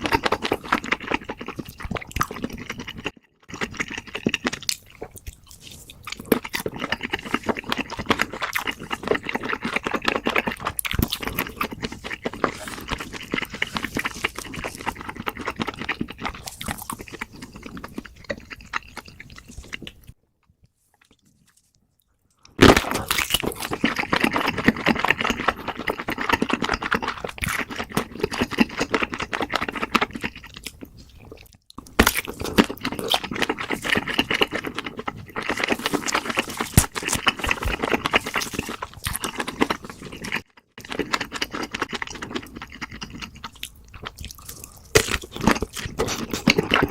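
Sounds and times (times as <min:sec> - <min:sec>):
chewing and crunching: 0:00.0 - 0:46.9.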